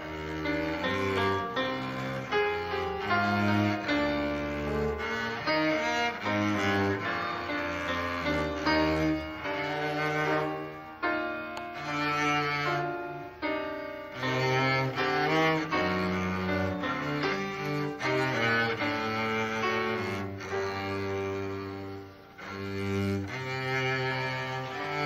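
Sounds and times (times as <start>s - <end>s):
classical instrumental duet: 0.0s - 25.0s.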